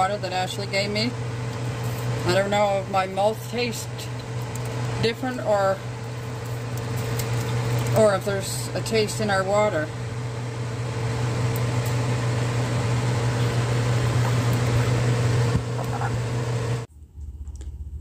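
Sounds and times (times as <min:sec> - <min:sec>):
electric kettle heating water: 0:00.0 - 0:16.9
electric fan whirring: 0:00.0 - 0:18.0.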